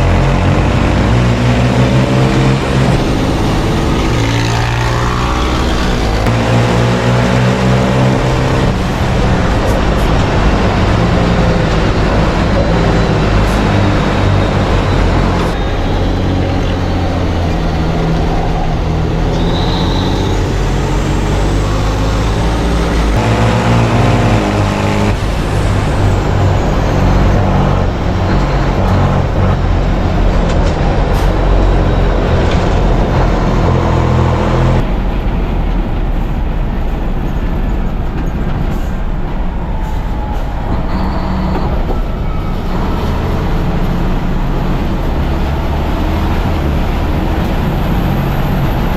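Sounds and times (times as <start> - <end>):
racing truck engine revving: 0.0 - 48.9.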